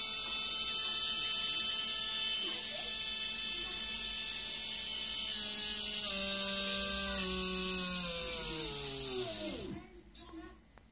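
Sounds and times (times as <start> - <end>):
electric motor whining: 0.0 - 9.9.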